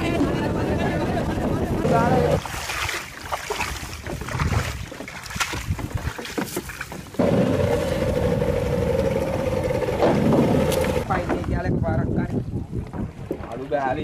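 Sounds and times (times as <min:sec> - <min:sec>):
boat engine running: 0:00.0 - 0:11.6.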